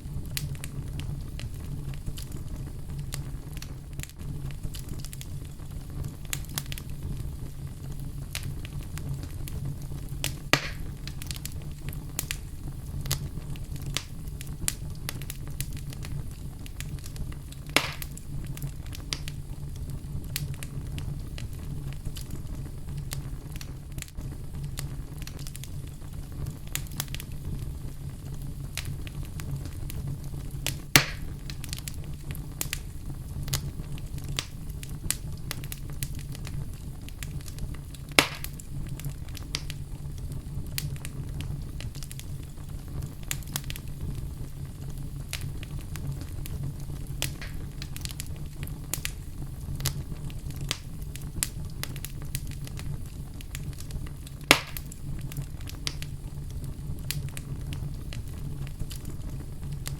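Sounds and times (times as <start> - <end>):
fire crackling in fireplace: 0.0 - 59.9
loud fire pops: 0.0 - 59.9.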